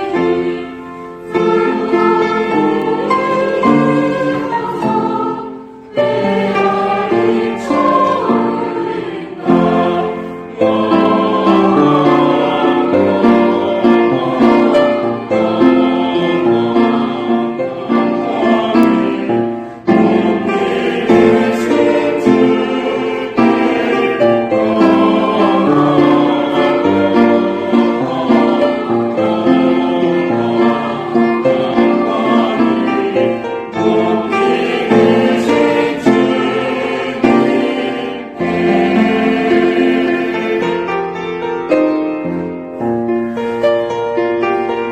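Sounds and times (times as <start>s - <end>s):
choir singing a hymn: 0.0s - 44.9s
instrumental accompaniment: 0.0s - 44.9s.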